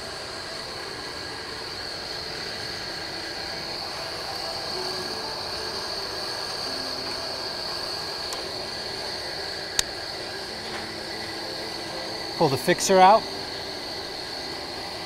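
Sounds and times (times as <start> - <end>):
ferris wheel mechanical hiss and whine: 0.0 - 15.0.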